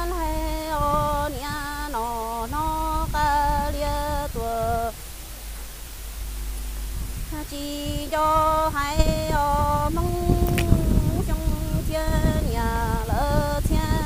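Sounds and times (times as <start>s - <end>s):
woman singing unaccompanied: 0.0s - 5.0s, 7.2s - 14.0s.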